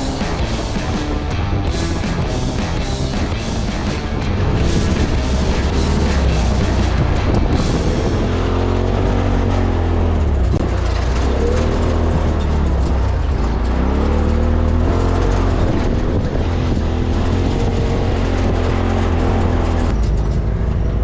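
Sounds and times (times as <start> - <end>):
deep rumble: 0.0 - 21.0
utility vehicle engine revving: 0.0 - 21.0.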